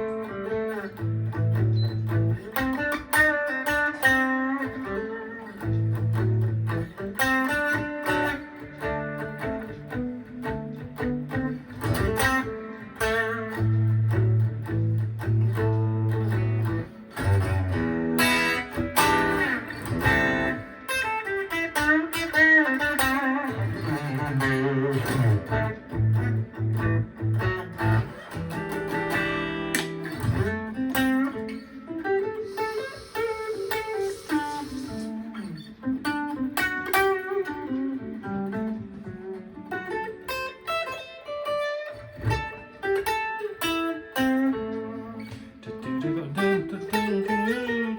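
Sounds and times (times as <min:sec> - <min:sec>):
electric guitar playing blues: 0:00.0 - 0:47.9.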